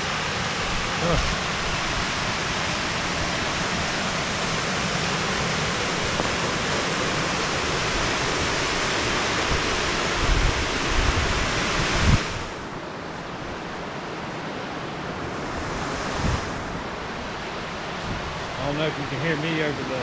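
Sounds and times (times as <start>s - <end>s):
small waterfall rushing: 0.0s - 20.0s.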